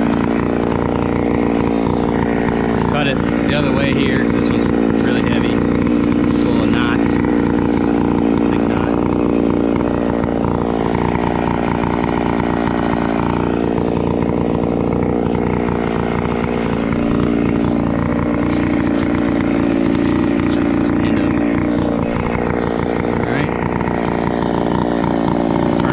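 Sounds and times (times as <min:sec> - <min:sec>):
chainsaw cutting wood: 0:00.0 - 0:25.9.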